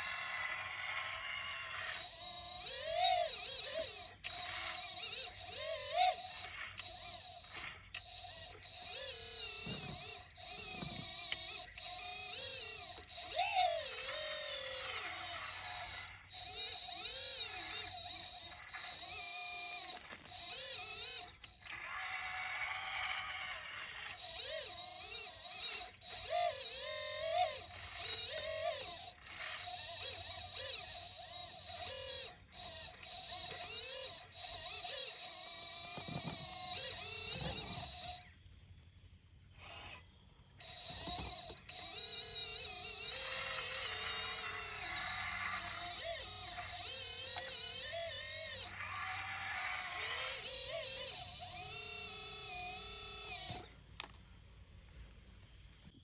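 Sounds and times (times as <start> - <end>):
hydraulic pump whining: 0.0 - 54.2.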